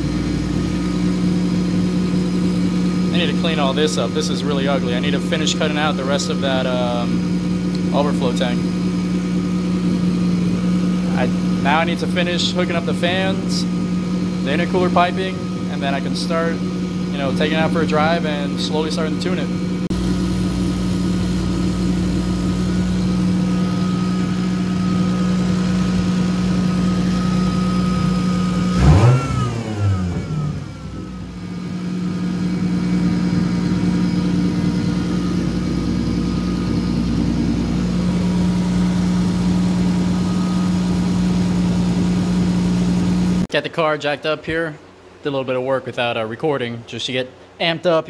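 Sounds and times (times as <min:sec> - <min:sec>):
car engine idling and revving: 0:00.0 - 0:43.5.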